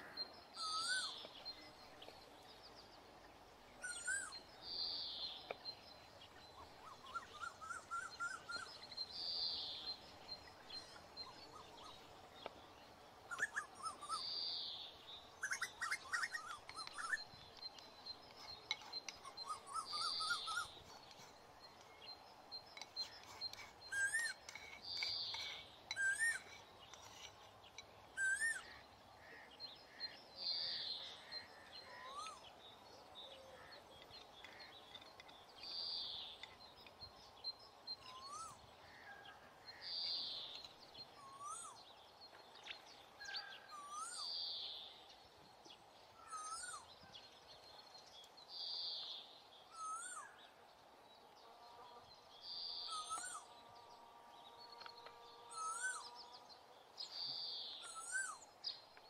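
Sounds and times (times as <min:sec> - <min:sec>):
faint birds calling: 0:00.0 - 0:59.0.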